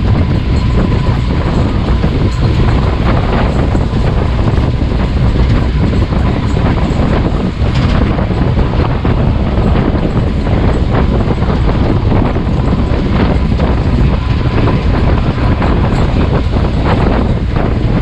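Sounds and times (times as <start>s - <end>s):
motorboat engine rumble: 0.0s - 18.0s
wind buffeting microphone: 0.0s - 18.0s.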